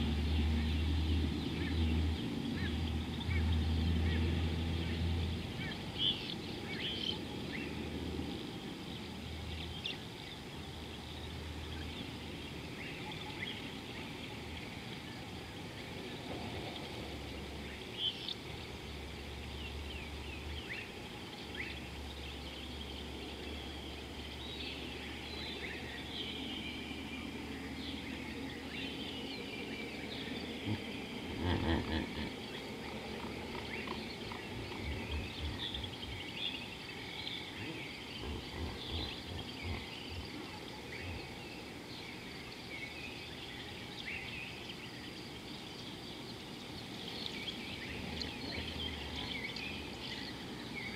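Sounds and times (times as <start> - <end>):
bird chirps and trills: 0.0 - 50.9
outdoor background hiss: 0.0 - 50.9.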